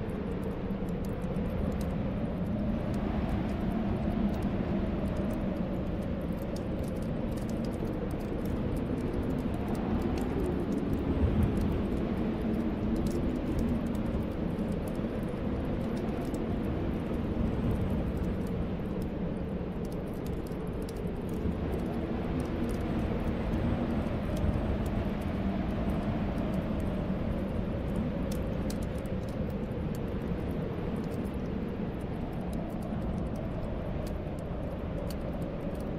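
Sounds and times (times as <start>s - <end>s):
wind blowing and whistling: 0.0s - 35.9s
wood fire crackling: 0.0s - 35.9s.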